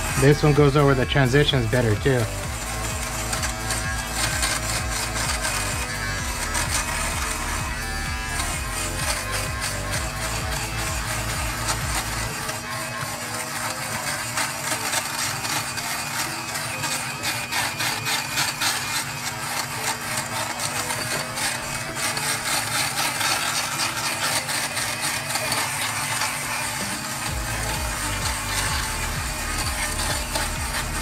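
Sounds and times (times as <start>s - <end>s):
blades rasping over fabric: 0.0s - 31.0s
fabric shaver motor humming: 0.0s - 31.0s.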